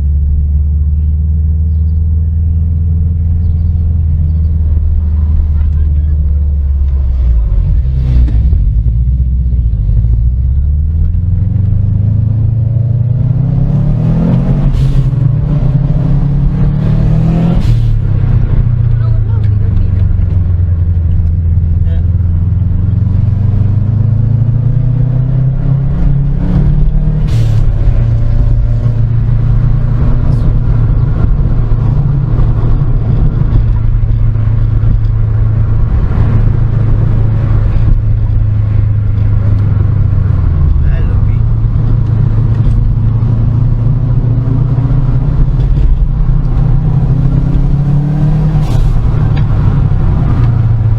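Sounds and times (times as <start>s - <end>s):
car engine accelerating hard: 0.0s - 50.9s.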